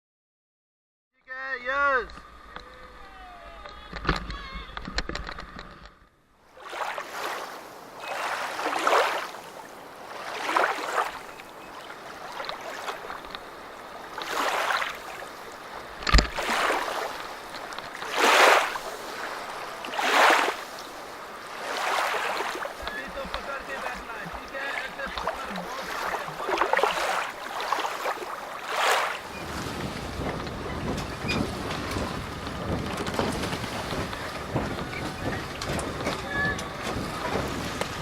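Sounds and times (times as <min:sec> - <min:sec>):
river water splashing: 0:06.4 - 0:38.0.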